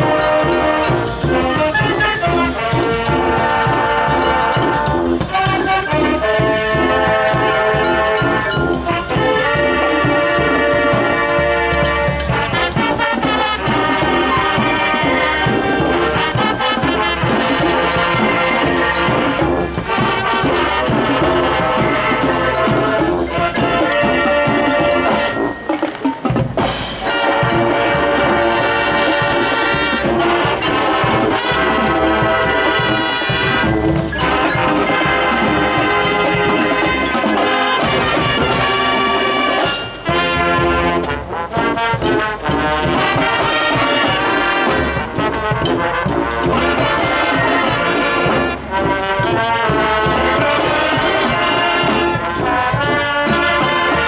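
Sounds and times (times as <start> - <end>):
brass sustained chords: 0.0 - 26.0, 26.6 - 54.0
marching band playing: 0.0 - 54.0
percussion: 0.0 - 54.0
steady drum beat: 0.0 - 54.0.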